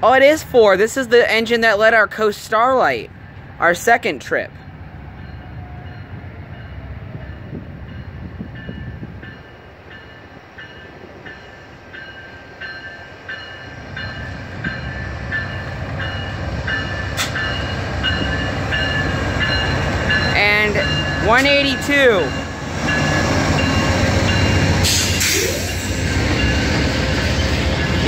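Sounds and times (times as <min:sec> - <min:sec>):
train rumble: 0:00.0 - 0:28.0
train bell ringing: 0:04.5 - 0:28.0.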